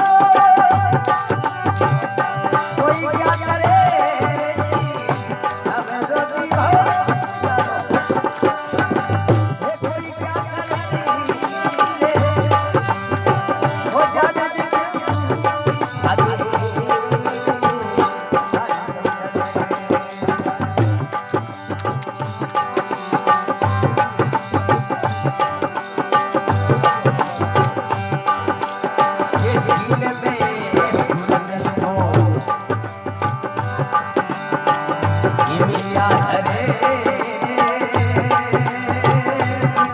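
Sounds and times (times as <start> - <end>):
instrumental melody: 0.0 - 39.9
steady drum rhythm: 0.0 - 39.9.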